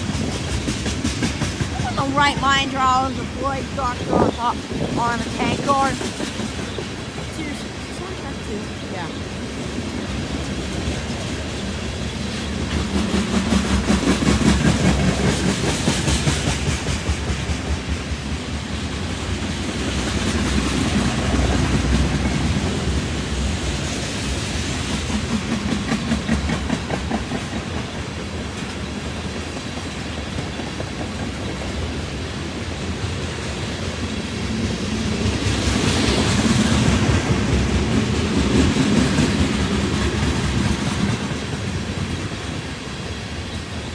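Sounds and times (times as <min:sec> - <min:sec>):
freight train wheels clicking: 0:00.0 - 0:43.9.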